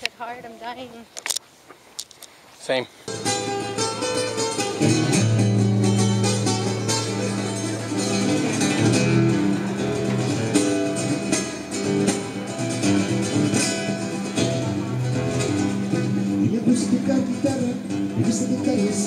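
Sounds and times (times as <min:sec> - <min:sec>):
flamenco guitar music: 0:03.0 - 0:19.0.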